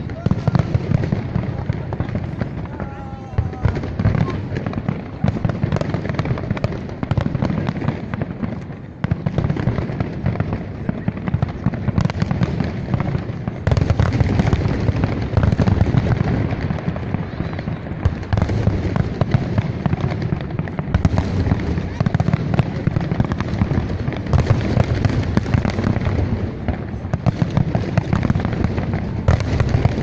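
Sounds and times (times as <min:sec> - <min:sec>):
crowd voices: 0:00.0 - 0:30.0
fireworks bangs and crackling: 0:00.0 - 0:30.0.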